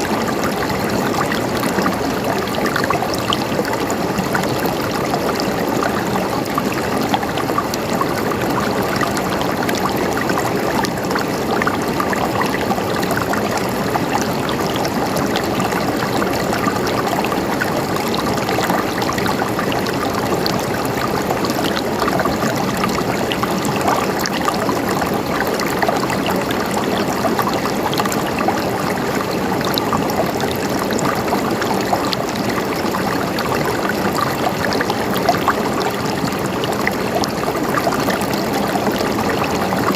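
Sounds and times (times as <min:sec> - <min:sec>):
river water splashing over rocks: 0:00.0 - 0:39.9.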